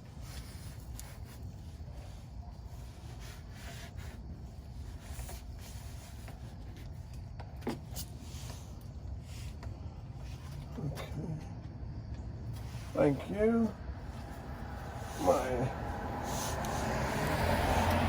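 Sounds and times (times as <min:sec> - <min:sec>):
faint rubbing and handling: 0:00.0 - 0:10.8, 0:12.5 - 0:16.8.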